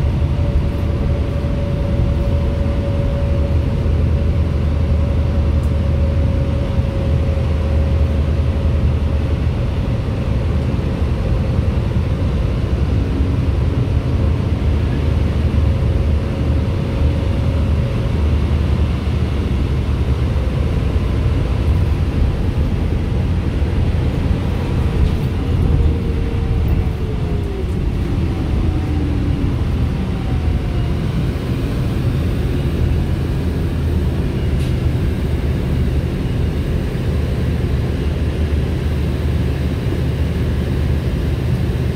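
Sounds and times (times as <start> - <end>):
bus engine and road rumble: 0.0 - 41.9.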